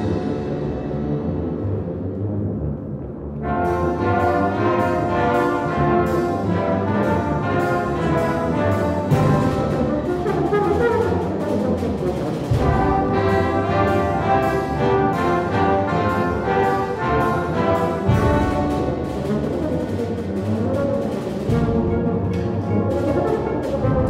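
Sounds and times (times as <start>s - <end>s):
wind band playing loudly: 0.0s - 24.0s
deep drum strokes: 3.4s - 24.0s.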